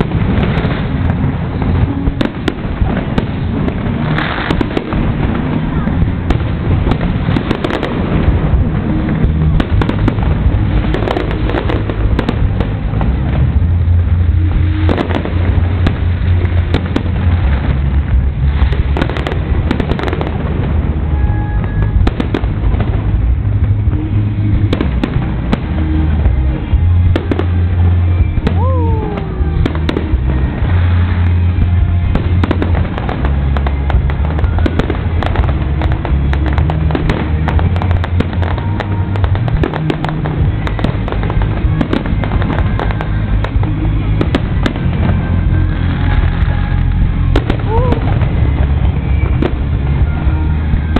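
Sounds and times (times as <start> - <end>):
deep low rumble: 0.0 - 50.9
fireworks bangs and crackling: 0.0 - 50.9.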